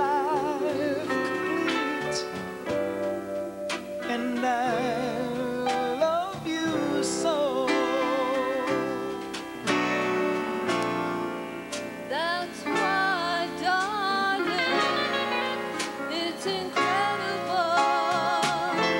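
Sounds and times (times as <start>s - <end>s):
live band music: 0.0s - 18.9s.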